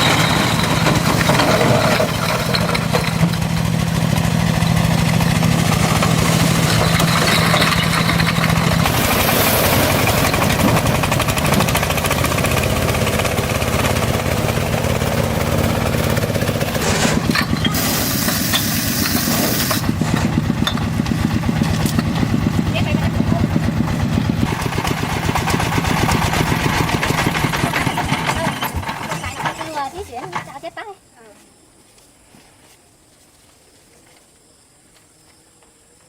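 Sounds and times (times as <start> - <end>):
engine running: 0.0 - 29.8.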